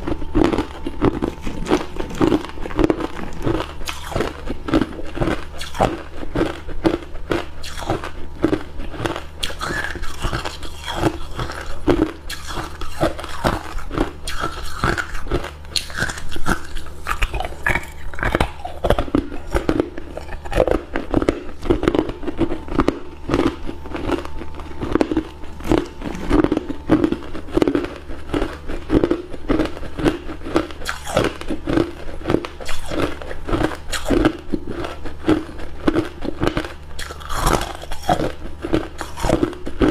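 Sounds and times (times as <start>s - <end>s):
ice cubes crunching: 0.0s - 39.8s.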